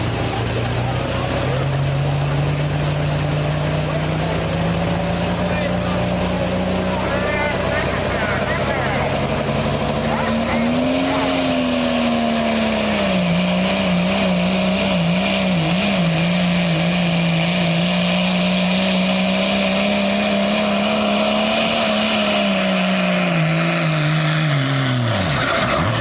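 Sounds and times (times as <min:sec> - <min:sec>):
diesel truck engine under load: 0:00.0 - 0:26.0.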